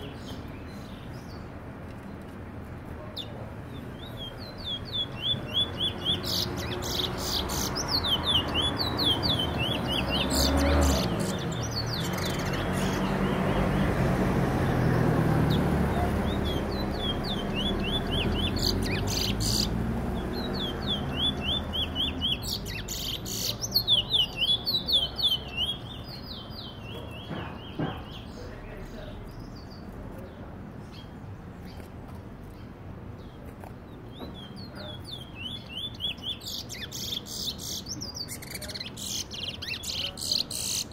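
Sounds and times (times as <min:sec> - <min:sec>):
finch chirping: 0:03.2 - 0:29.9, 0:32.6 - 0:40.9.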